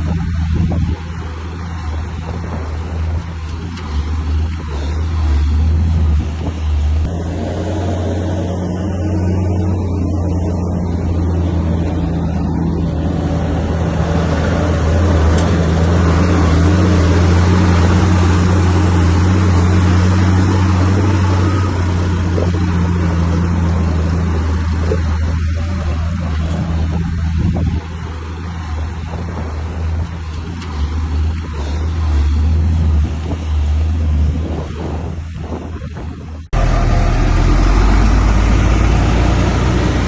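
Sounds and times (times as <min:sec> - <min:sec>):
bulldozer diesel engine drone: 0:00.0 - 0:40.0.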